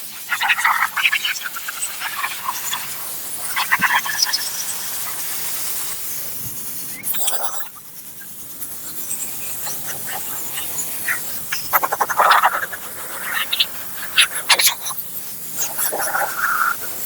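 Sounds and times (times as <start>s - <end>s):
steam cleaner hissing: 0.0s - 17.0s
steam spitting sputter: 0.0s - 17.0s.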